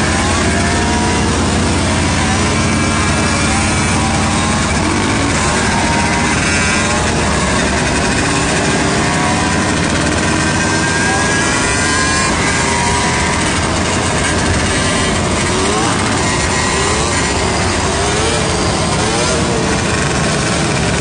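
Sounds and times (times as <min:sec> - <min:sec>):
motorcycle engines running: 0:00.0 - 0:21.0.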